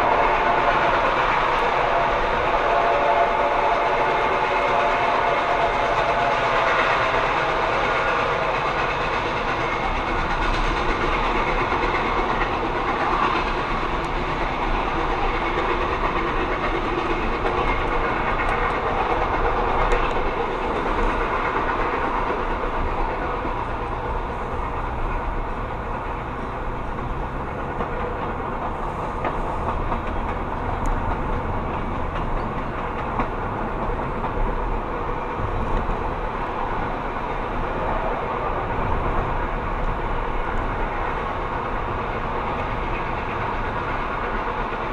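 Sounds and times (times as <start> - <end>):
train rumbling along track: 0.0 - 44.9.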